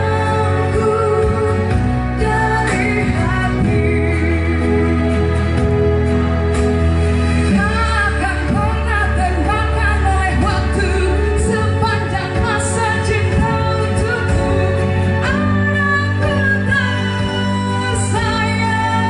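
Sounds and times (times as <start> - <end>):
woman singing pop song: 0.0 - 5.9, 7.3 - 19.0
backing track with bass: 0.0 - 19.0.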